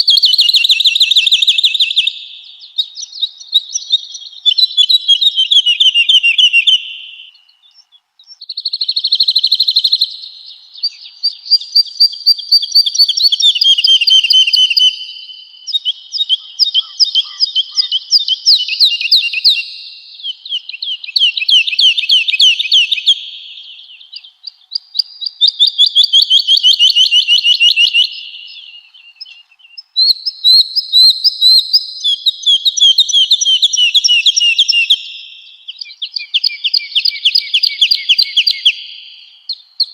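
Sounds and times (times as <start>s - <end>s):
woodlark singing: 0.0s - 39.9s.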